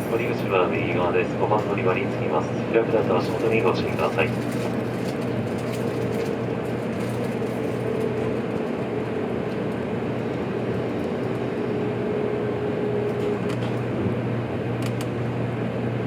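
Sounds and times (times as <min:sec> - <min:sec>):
train rail rumble: 0:00.0 - 0:16.0.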